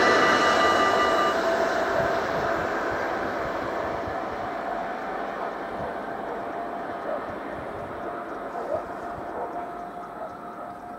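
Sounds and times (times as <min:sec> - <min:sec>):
faint steady whine: 0:00.0 - 0:10.9
train rumbling past: 0:00.0 - 0:10.9.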